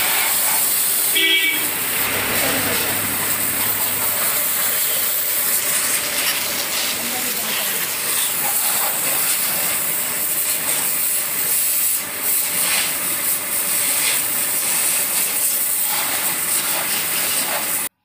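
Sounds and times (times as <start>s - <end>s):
high-pressure water jet hissing: 0.0s - 17.9s.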